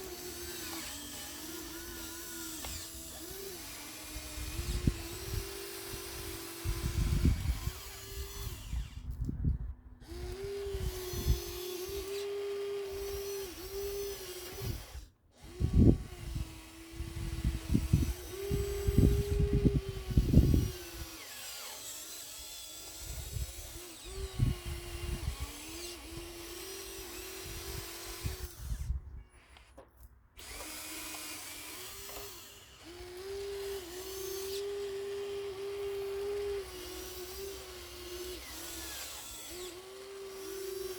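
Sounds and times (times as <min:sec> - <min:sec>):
hydraulic pump whining: 0:00.0 - 0:09.4, 0:10.0 - 0:40.9.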